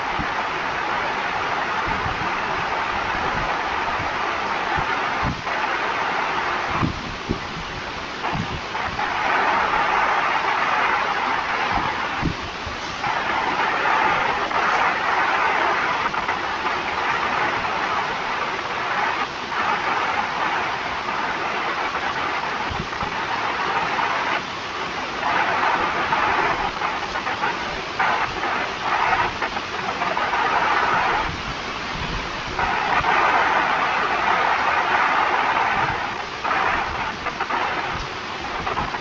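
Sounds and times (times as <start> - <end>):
steady rushing noise: 0.0 - 39.0.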